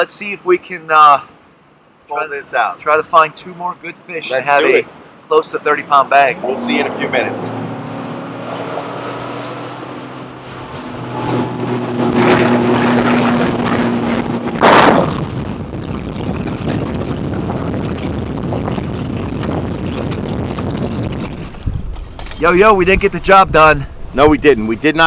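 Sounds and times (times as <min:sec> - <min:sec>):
water and wind rushing: 0:00.9 - 0:25.0.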